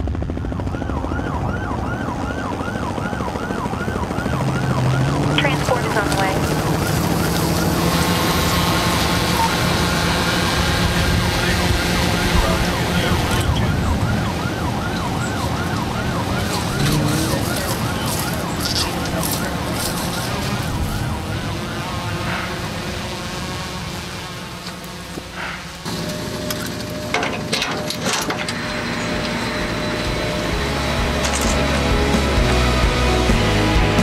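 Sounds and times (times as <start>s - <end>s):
emergency siren yelping: 0.1s - 23.0s, 25.8s - 34.0s.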